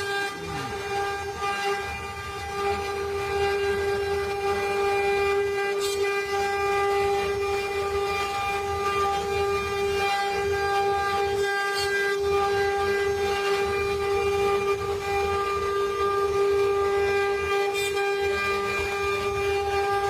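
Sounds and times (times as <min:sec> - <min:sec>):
router spindle motor whining: 0:00.0 - 0:20.0.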